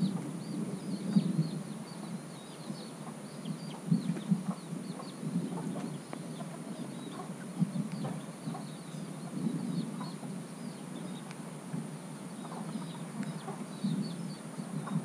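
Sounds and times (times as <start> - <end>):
small birds chirping: 0.0 - 15.0
steady high hiss: 0.0 - 15.0.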